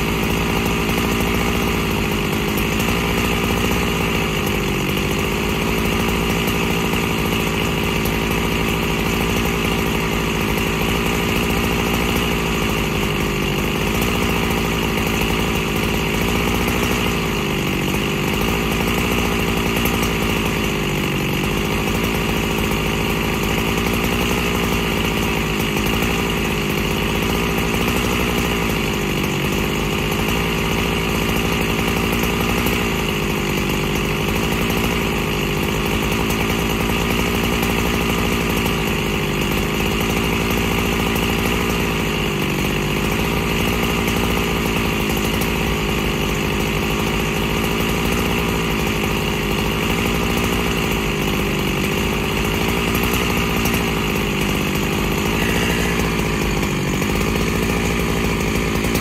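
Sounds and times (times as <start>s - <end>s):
chainsaw engine idling: 0.0s - 59.0s.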